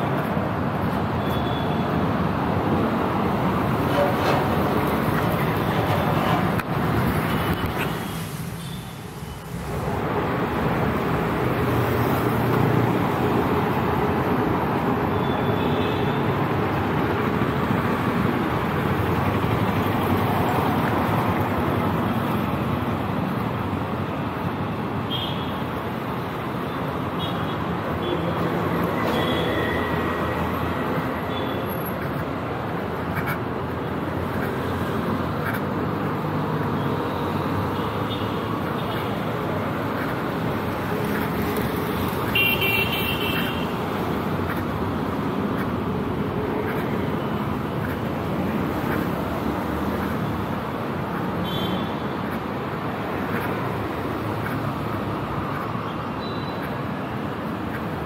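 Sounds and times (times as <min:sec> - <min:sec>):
city street traffic: 0:00.0 - 0:58.0.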